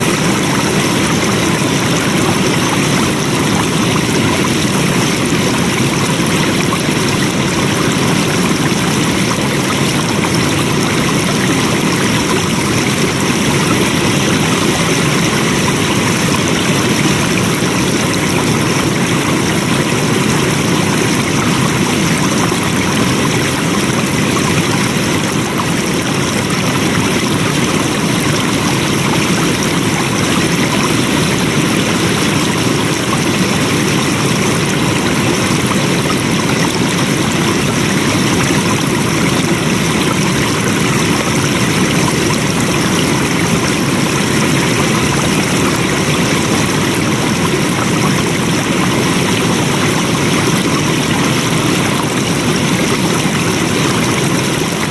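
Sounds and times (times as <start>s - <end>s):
stream rushing: 0.0s - 54.9s.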